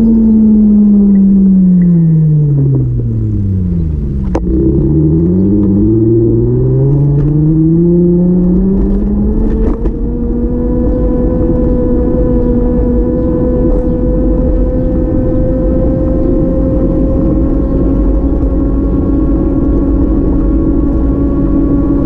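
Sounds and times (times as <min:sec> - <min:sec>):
vehicle engine accelerating: 0:00.0 - 0:22.0.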